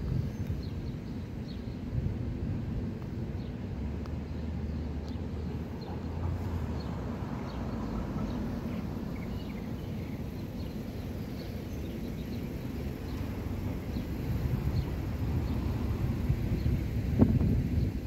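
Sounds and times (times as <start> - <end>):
birds chirping: 0.0 - 1.9, 3.3 - 18.0
train idling low rumble: 0.0 - 18.0.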